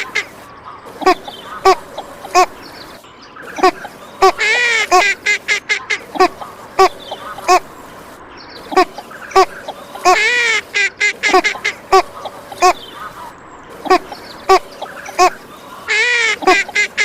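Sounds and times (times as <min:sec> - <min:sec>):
duck quacking: 0:00.0 - 0:00.4, 0:01.0 - 0:02.7, 0:03.4 - 0:07.8, 0:08.7 - 0:17.0.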